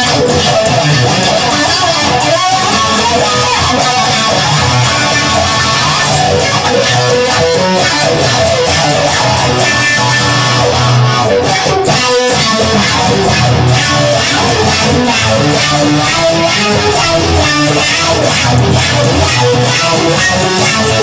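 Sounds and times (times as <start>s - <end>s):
instrumental electric guitar music: 0.0s - 21.0s.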